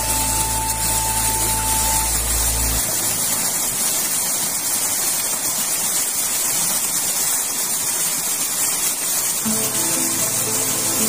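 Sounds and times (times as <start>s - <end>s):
water splashing over rocks: 0.0s - 11.0s.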